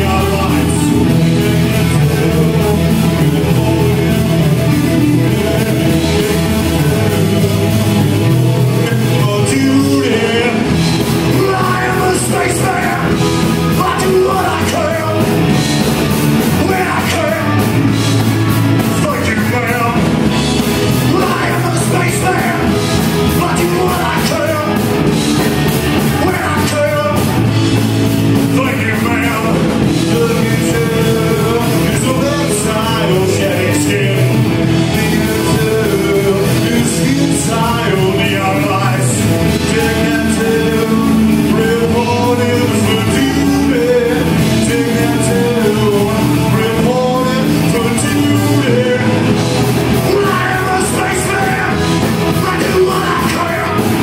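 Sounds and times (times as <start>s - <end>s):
drums: 0.0s - 54.0s
electric guitar: 0.0s - 54.0s
man singing: 0.0s - 54.0s.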